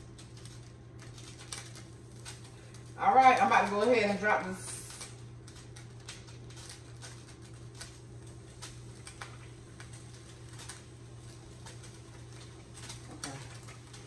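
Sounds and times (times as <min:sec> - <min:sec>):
hot oil crackling and popping: 0:00.0 - 0:14.0
steady low hum: 0:00.0 - 0:14.0.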